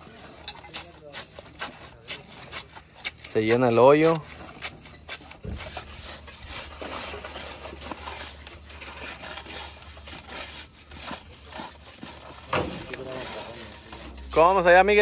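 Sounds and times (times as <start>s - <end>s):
hand tools scraping wet concrete: 0.0s - 15.0s.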